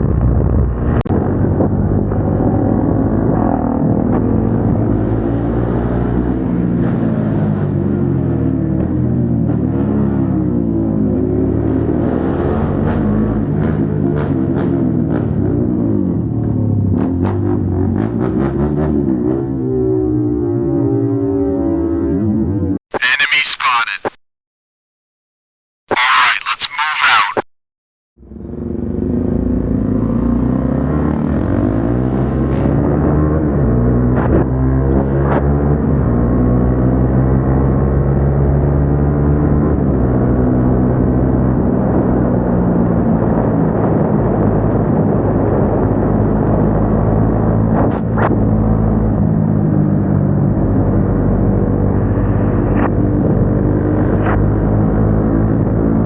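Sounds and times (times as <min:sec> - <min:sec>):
motorcycle engine cruising: 0:00.0 - 0:22.8, 0:28.2 - 0:56.0.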